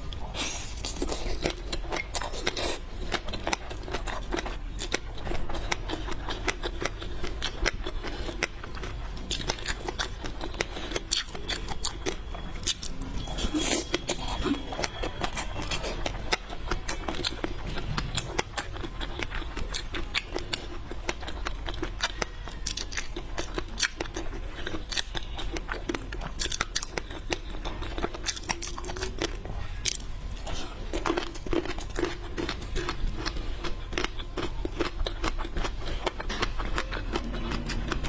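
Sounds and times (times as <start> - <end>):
person chewing seafood: 0.0 - 38.0.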